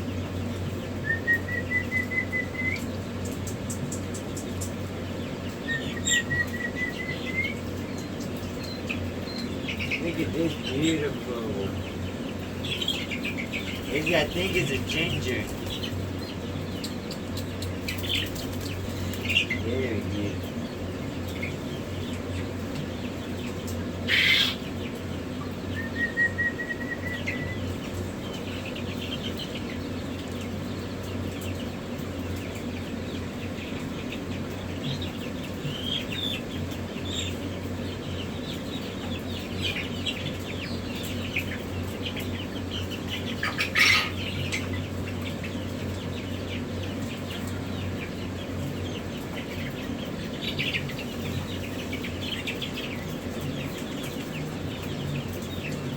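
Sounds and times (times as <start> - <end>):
chicks peeping: 0.0 - 55.9
steady low hum: 0.0 - 55.9.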